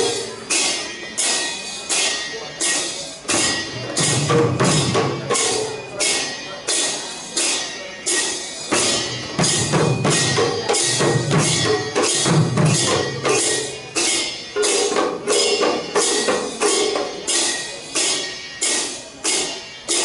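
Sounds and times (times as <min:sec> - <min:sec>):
hand cymbals clashing: 0:00.0 - 0:20.0.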